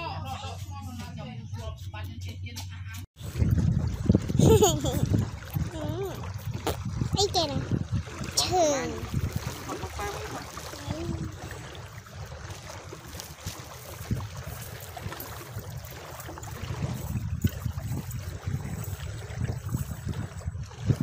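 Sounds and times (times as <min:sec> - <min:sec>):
small waves lapping: 0:03.2 - 0:21.0
wind rumbling on microphone: 0:03.2 - 0:21.0.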